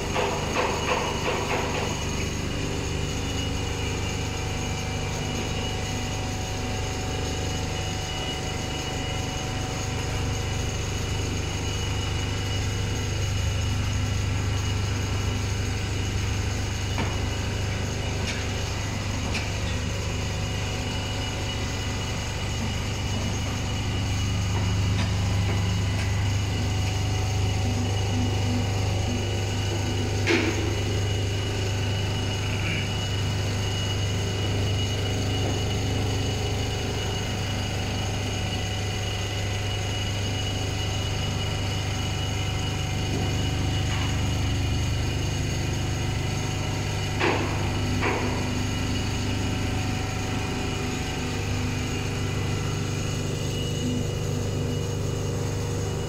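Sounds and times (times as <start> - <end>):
quilting machine humming and whining: 0.0 - 56.0.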